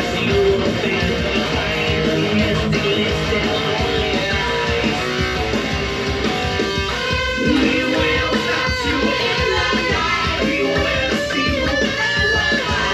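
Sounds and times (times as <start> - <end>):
electric guitar riff: 0.0 - 12.9.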